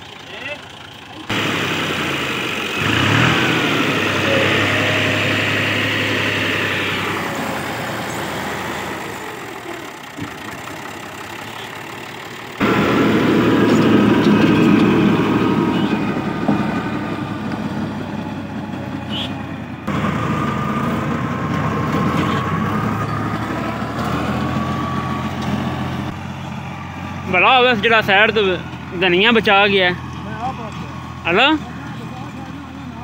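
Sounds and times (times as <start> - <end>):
tractor diesel engine: 0.0 - 33.0.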